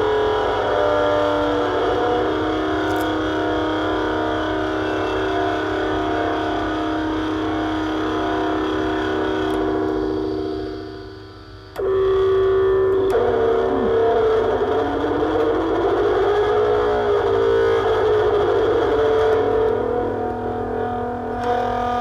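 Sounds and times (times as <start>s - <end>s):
harsh noise drone: 0.0s - 22.0s.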